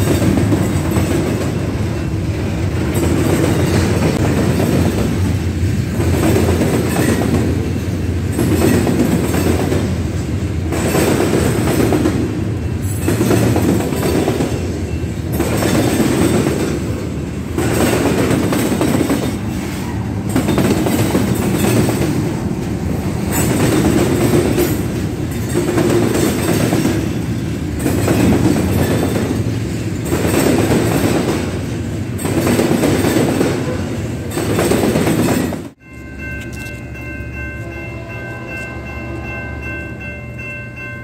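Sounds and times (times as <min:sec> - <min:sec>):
diesel locomotive passing: 0:00.0 - 0:41.0
freight train wheels clattering on rails: 0:00.0 - 0:41.0.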